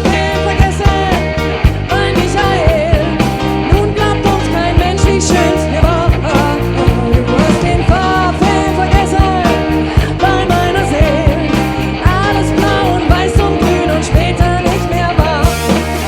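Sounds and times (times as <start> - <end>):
bass and guitar: 0.0 - 16.0
drum kit beat: 0.0 - 16.0.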